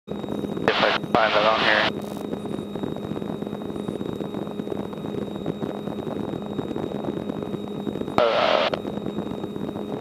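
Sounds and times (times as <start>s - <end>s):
light aircraft engine droning: 0.1s - 10.0s.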